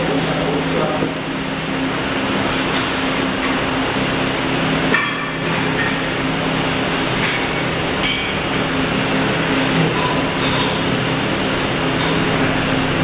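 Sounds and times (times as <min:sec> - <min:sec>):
arc welding crackling hiss: 0:00.0 - 0:13.0
welding machine hum: 0:00.0 - 0:13.0.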